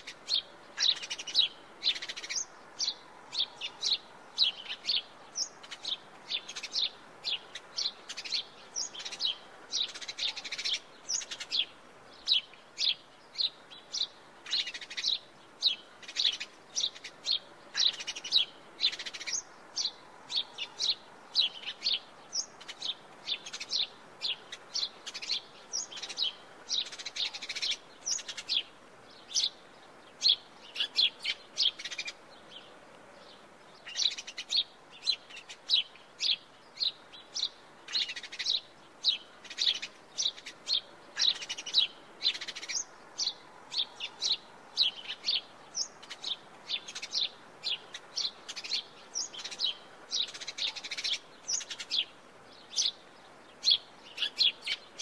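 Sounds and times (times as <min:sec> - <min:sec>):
sparrow chirping: 0:00.0 - 0:55.0.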